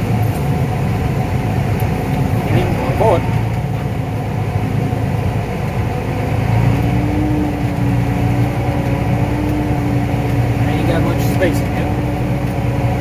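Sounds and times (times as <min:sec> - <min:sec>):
steady whine: 0:00.0 - 0:13.0
tractor engine running: 0:00.0 - 0:13.0.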